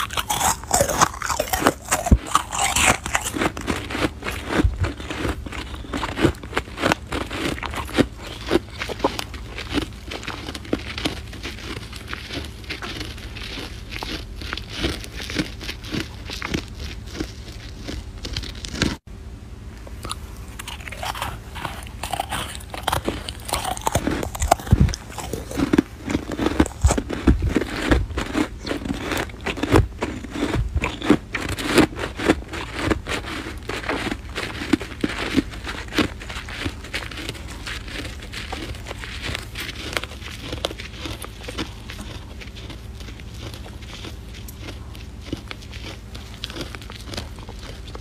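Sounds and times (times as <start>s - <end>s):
snow being bitten and chewed: 0.0s - 19.0s, 19.9s - 48.0s.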